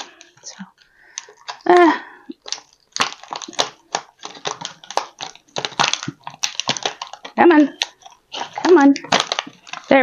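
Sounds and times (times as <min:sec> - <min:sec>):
toy packaging crackling and rustling: 0:00.0 - 0:10.0.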